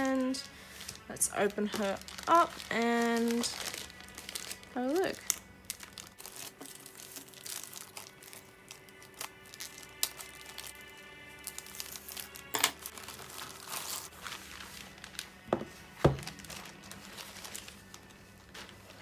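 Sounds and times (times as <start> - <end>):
wrapping crinkling and tearing: 0.0 - 19.0.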